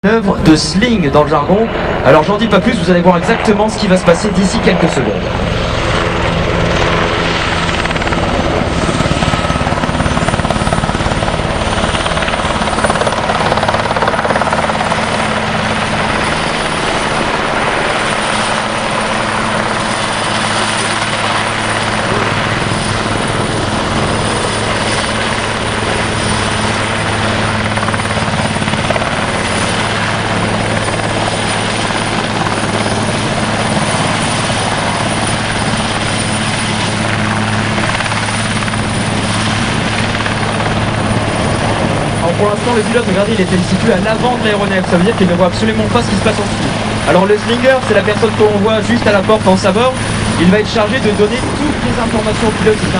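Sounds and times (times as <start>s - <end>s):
helicopter hovering: 0.0s - 52.9s
high turbine whine: 0.0s - 52.9s.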